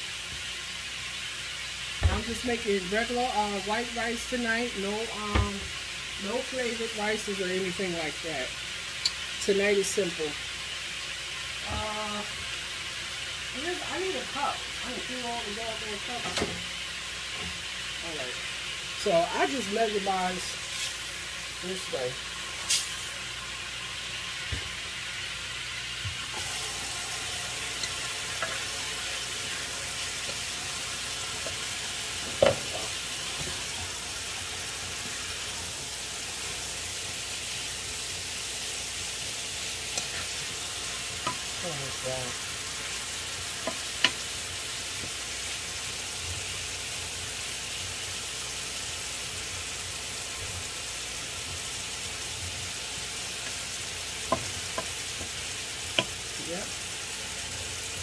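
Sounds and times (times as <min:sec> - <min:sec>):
meat sizzling in a skillet: 0:00.0 - 0:58.0.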